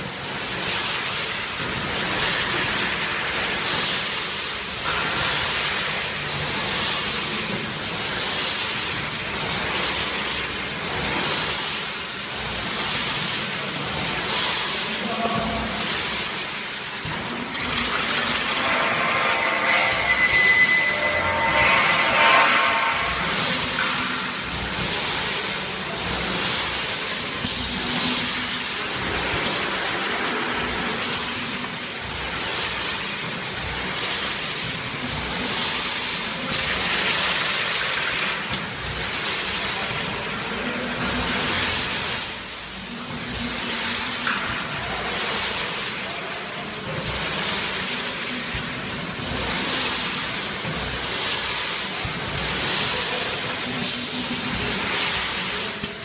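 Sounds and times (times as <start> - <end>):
hissing production line machinery: 0.0 - 56.0.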